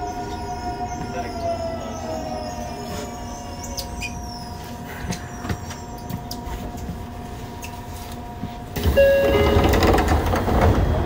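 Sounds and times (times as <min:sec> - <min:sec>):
rumble of rail noise: 0:00.0 - 0:11.0.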